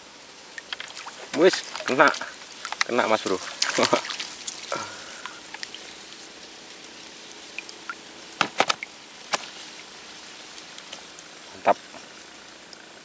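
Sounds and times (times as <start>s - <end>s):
faint steady hiss: 0.0s - 13.0s
fish splashing in water: 0.6s - 11.4s.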